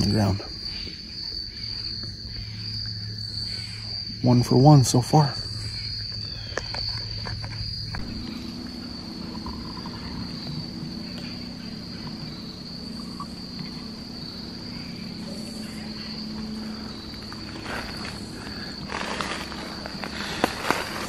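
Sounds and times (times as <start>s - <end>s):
insects trilling: 0.0s - 21.0s
low steady hum: 0.0s - 21.0s.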